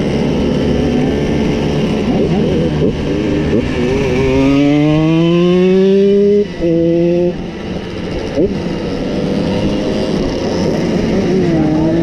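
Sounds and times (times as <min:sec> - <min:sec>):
moped engine accelerating: 0:00.0 - 0:12.0
moped engines revving: 0:00.0 - 0:12.0.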